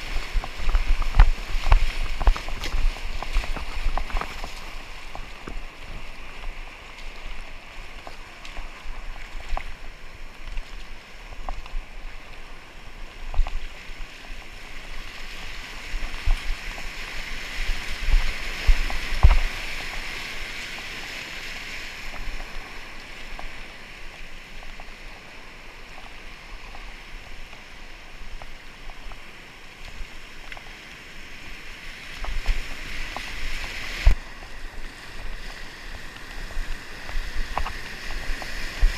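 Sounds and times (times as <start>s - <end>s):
floodwater rushing: 0.0s - 38.9s
water splashes: 0.0s - 38.9s.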